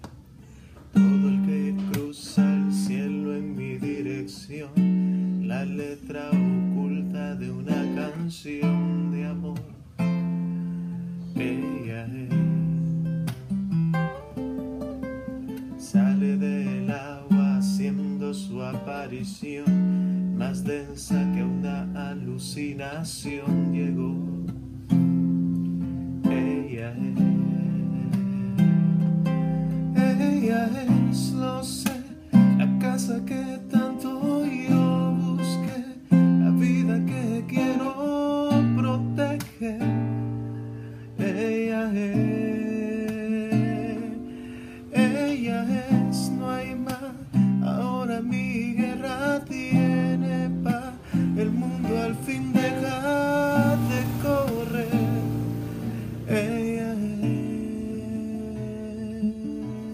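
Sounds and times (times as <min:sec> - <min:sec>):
classical guitar playing: 0:00.0 - 0:59.9.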